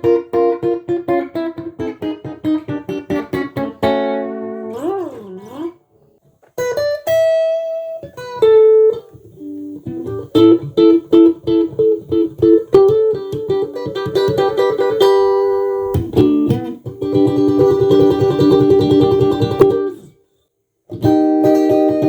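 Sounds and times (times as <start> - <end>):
electric guitar picked notes: 0.0 - 5.8, 6.6 - 20.1.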